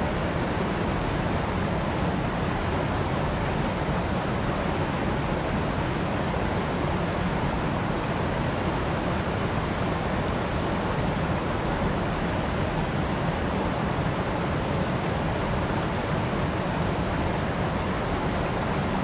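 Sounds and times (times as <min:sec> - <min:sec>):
stream rushing over rocks: 0:00.1 - 0:19.0.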